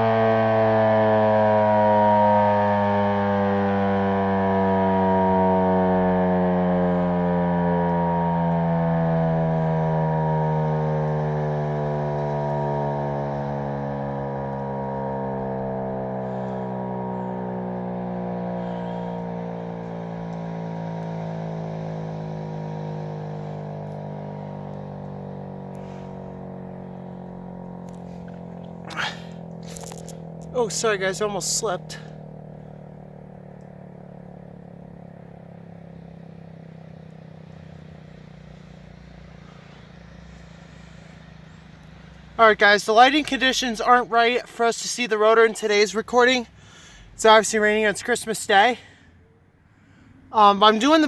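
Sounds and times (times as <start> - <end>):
siren winding down: 0.0 - 51.0.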